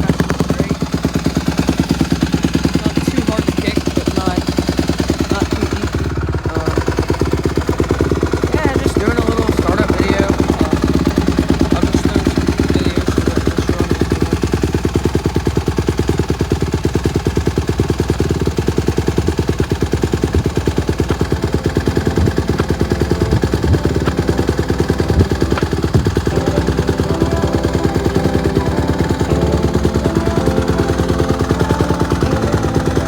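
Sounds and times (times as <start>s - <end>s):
dirt bike engine idling: 0.0s - 33.0s.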